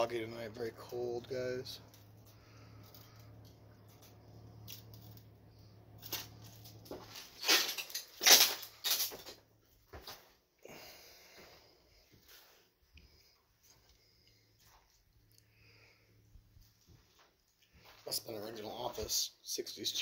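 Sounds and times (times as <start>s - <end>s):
steady low hum: 0.0s - 19.2s.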